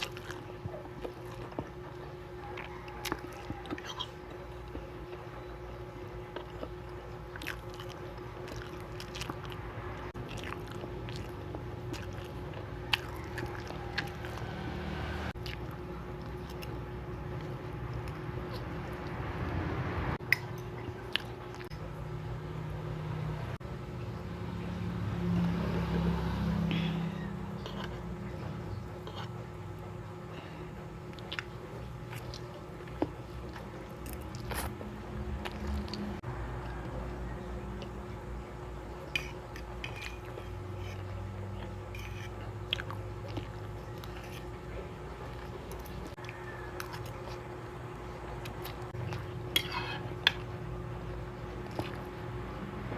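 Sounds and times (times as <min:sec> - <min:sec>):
chewing food: 0:00.0 - 0:22.0, 0:25.2 - 0:52.9.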